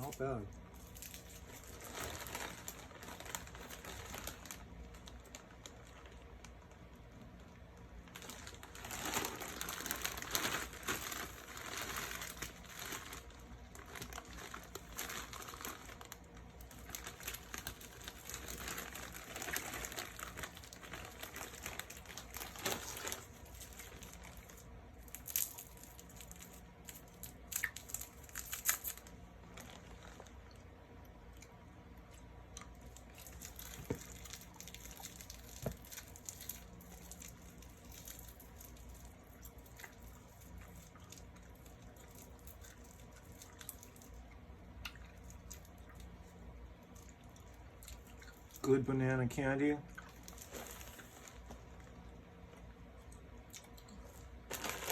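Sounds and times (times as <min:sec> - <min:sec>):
plastic wrapper crinkling: 0:00.0 - 0:30.7, 0:32.5 - 0:52.7, 0:53.6 - 0:54.9.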